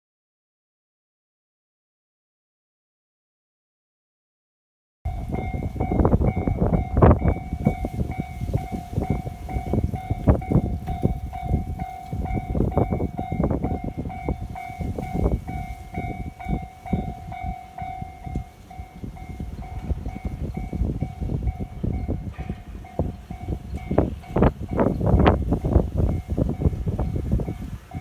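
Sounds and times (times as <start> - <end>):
level crossing warning bell: 5.1 - 28.0
train wheels clattering on rails: 5.1 - 28.0.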